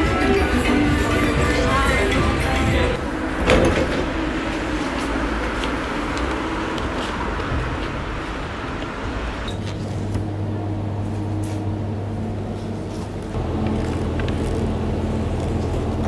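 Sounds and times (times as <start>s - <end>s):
steady low hum: 0.0s - 16.0s
steady low rumble: 0.1s - 16.0s.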